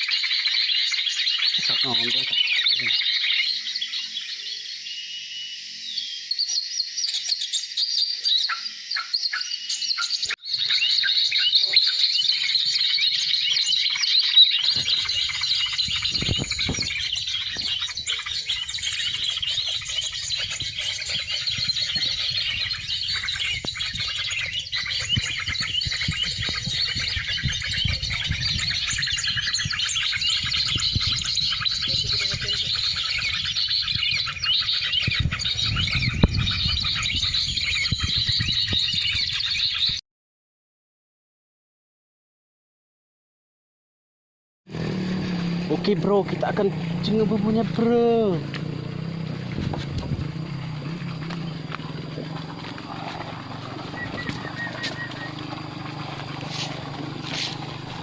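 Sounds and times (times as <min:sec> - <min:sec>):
birds chirping: 0:00.0 - 0:40.0, 0:44.7 - 0:58.0.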